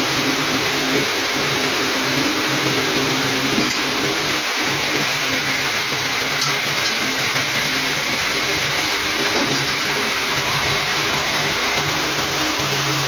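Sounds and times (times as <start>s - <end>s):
pneumatic grinder hissing: 0.0s - 13.0s.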